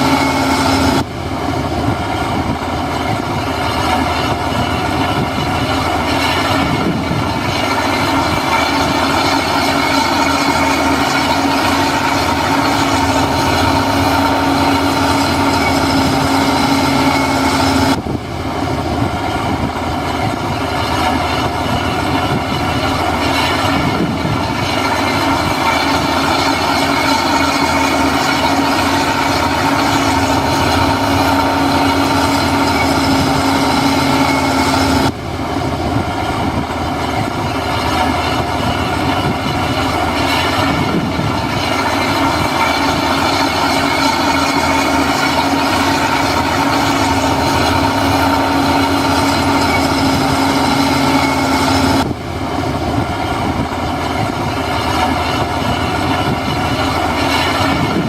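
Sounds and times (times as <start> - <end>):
heavy diesel machinery running: 0.0 - 58.0
steady whine: 0.0 - 58.0.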